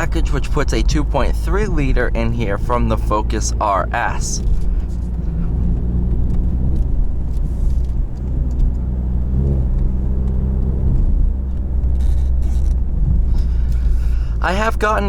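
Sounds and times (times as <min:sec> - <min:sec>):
car exhaust droning: 0:00.0 - 0:15.0.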